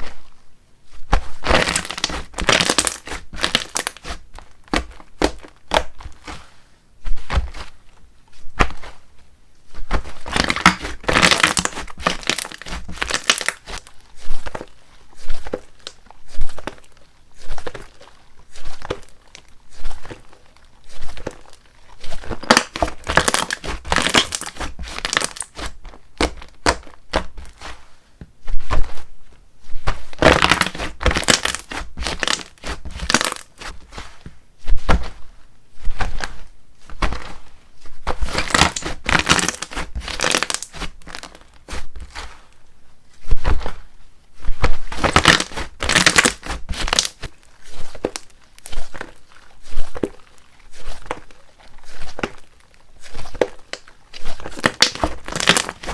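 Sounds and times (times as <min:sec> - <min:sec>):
slime squished by hand: 0:01.2 - 0:06.4, 0:09.9 - 0:27.8, 0:29.8 - 0:37.4, 0:38.0 - 0:42.4, 0:44.5 - 0:55.9.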